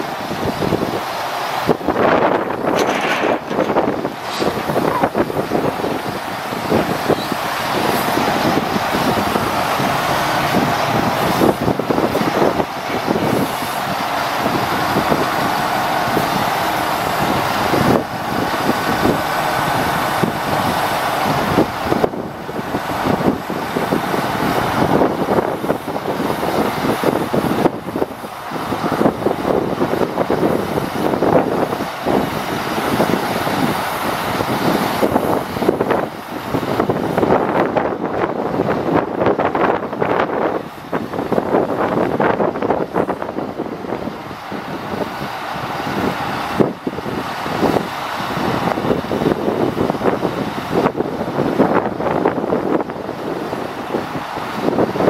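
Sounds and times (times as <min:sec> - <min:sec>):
crane hydraulics: 0:00.0 - 0:55.0
truck diesel engine running: 0:00.0 - 0:55.0.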